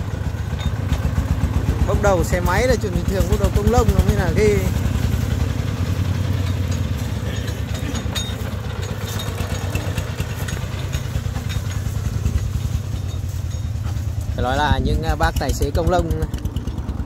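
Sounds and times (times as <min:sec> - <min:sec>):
diesel engine chugging: 0:00.0 - 0:17.0
faint clatters: 0:02.5 - 0:16.9.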